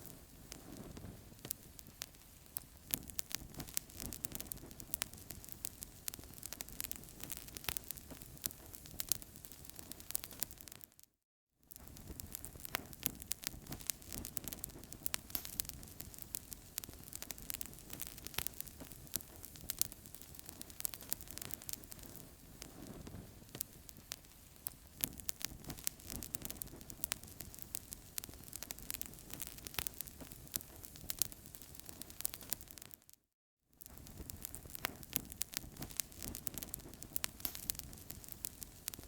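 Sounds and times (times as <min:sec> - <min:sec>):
fire pops and snaps: 0:00.0 - 0:11.0, 0:11.7 - 0:33.2, 0:33.8 - 0:39.0
low noise of burning: 0:00.0 - 0:11.1, 0:11.7 - 0:33.2, 0:33.8 - 0:39.0.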